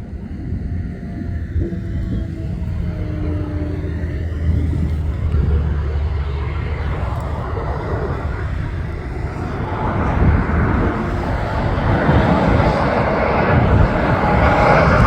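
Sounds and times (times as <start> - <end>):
jet engine rush and rumble: 0.0 - 15.0.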